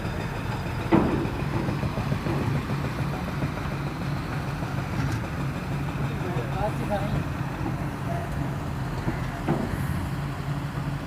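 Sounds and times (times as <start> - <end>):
machinery engine idling: 0.0 - 11.0.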